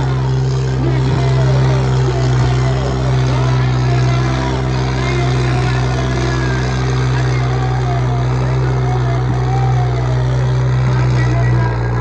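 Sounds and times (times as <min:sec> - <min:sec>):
faint voices: 0:00.0 - 0:12.0
tractor diesel engine running: 0:00.0 - 0:12.0.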